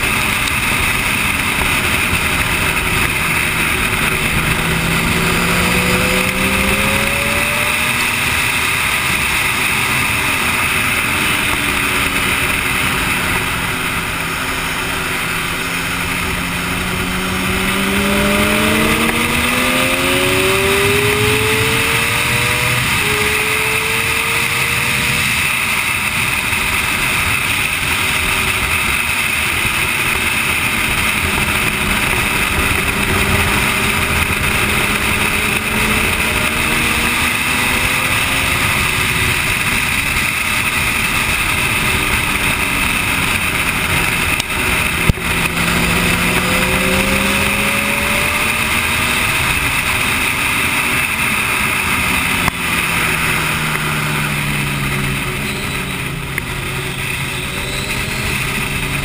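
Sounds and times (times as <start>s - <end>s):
motorcycle engine at speed: 0.0s - 59.0s
wind noise: 0.0s - 59.0s.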